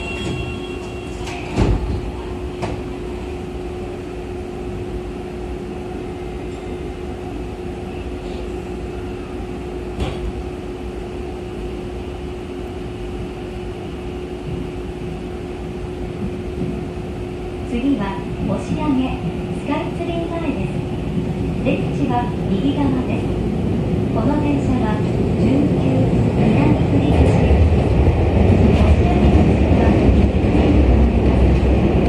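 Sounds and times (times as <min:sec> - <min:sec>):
train rumbling in tunnel: 0:00.0 - 0:32.0.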